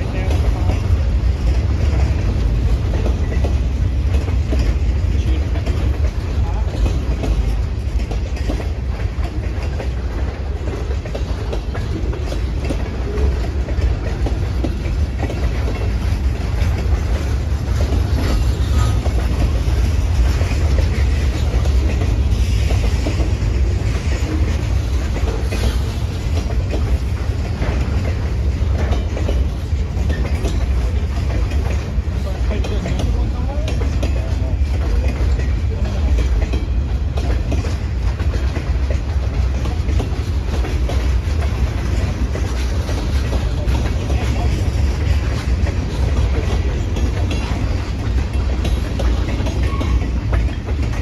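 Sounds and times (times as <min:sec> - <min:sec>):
train wheels rumbling on rails: 0:00.0 - 0:51.0
wheels clicking and clanking: 0:00.0 - 0:51.0.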